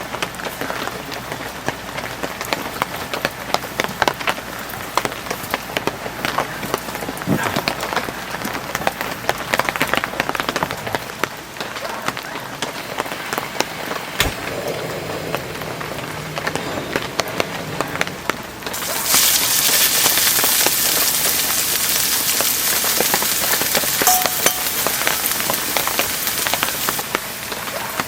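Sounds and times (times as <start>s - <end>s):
raindrops ticking: 0.0s - 14.0s, 15.3s - 28.0s
heavy rain falling: 0.0s - 28.0s.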